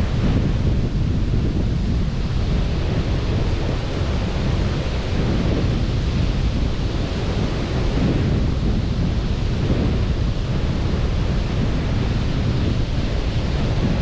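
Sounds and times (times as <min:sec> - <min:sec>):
sea surf: 0:00.0 - 0:14.0
wind: 0:00.0 - 0:14.0.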